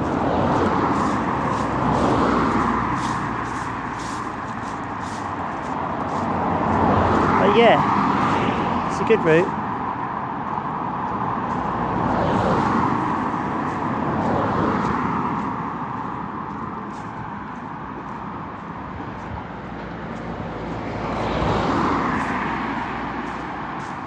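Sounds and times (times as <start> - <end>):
cars passing by: 0.0 - 24.0.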